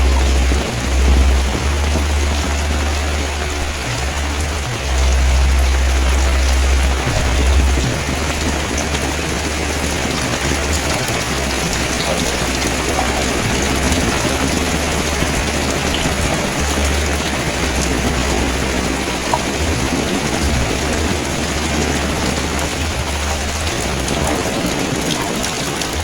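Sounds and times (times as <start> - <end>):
low rumble: 0.0 - 26.0
steady rain falling: 0.0 - 26.0.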